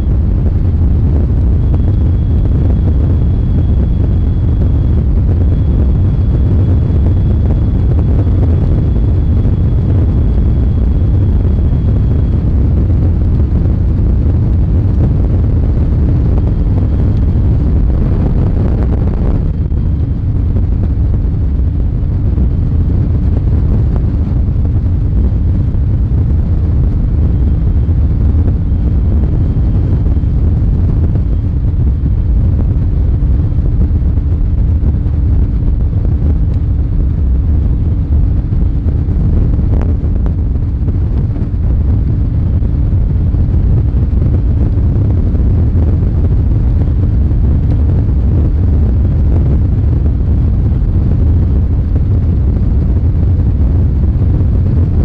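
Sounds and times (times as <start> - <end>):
hull on water: 0.0 - 55.0
outboard motor drone: 0.0 - 55.0
wind buffeting microphone: 0.0 - 55.0.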